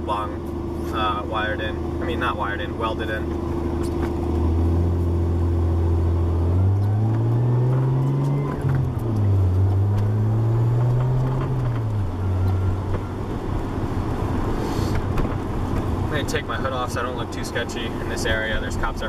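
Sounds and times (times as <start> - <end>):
turbocharged car engine revving: 0.0 - 19.0.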